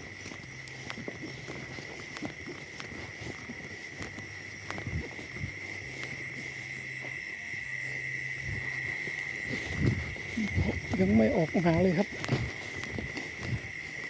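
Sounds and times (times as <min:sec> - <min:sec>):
footsteps in dry vegetation: 0:00.0 - 0:14.0
insects trilling: 0:00.0 - 0:14.0.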